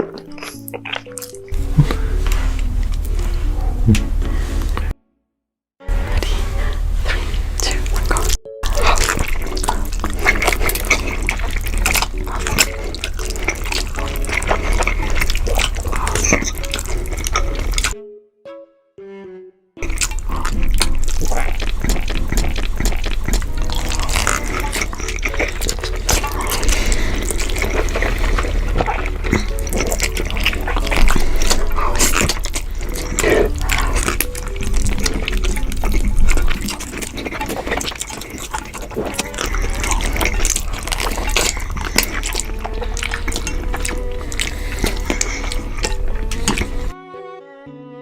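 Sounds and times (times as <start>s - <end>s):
crackly mouth clicks: 0.0s - 3.3s, 7.3s - 18.0s, 19.8s - 46.9s
wet chewing: 0.0s - 4.9s, 5.9s - 18.0s, 19.8s - 47.0s
slurping: 0.0s - 5.0s, 5.9s - 18.0s, 19.8s - 47.0s
soft string music: 0.0s - 5.0s, 5.8s - 11.2s, 11.8s - 20.3s, 23.5s - 37.5s, 39.0s - 48.0s
steady low hum: 1.6s - 4.9s, 5.8s - 18.0s, 19.8s - 46.9s.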